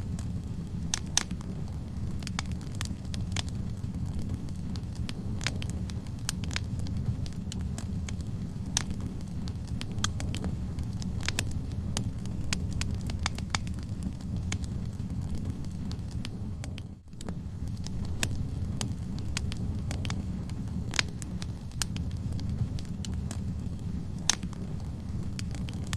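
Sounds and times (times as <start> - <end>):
fire flames rumbling: 0.0 - 25.9
logs crackling and popping: 0.0 - 25.9.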